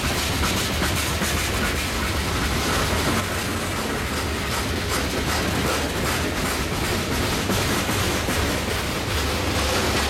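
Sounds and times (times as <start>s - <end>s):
freight train wheels rumbling: 0.0s - 10.0s
wheels clacking over rail joints: 0.0s - 10.0s.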